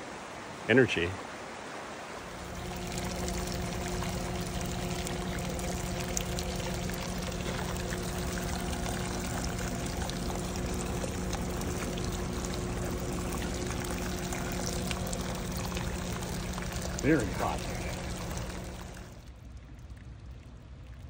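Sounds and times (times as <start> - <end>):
faint low hum: 2.2 - 21.0
water trickling over rock: 2.2 - 21.0.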